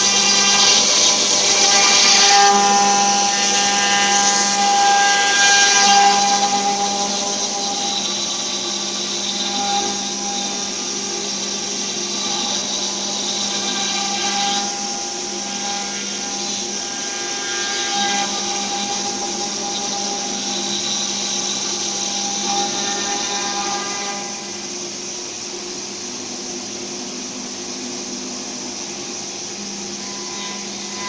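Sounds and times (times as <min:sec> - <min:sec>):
cnc router spindle whine: 0:00.0 - 0:31.0.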